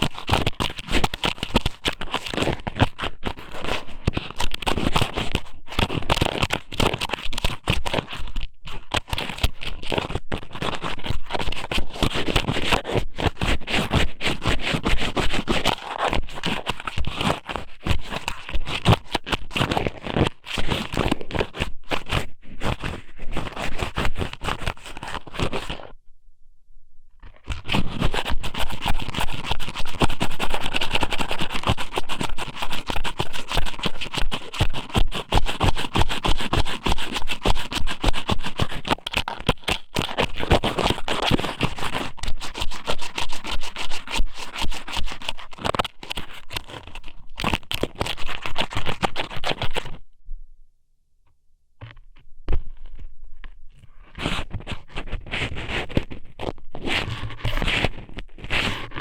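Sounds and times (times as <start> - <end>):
scraping crackles on microphone: 0.0 - 26.0, 27.2 - 50.0, 51.8 - 59.0.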